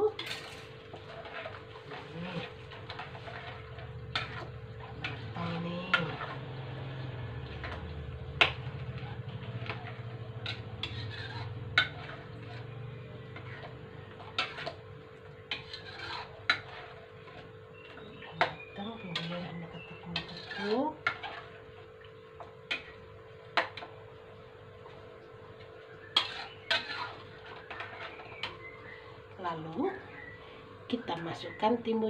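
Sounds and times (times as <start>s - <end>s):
spatula scraping a wok: 0.0s - 29.3s.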